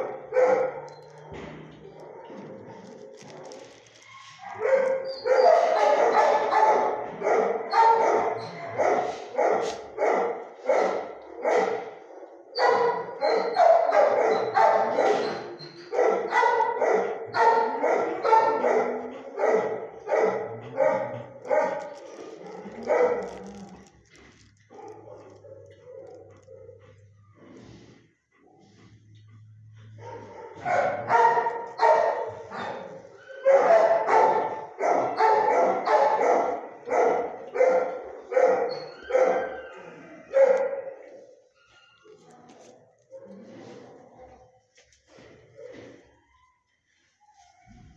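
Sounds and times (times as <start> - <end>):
dog barking in echoing kennel: 0.0 - 27.3, 29.4 - 41.5.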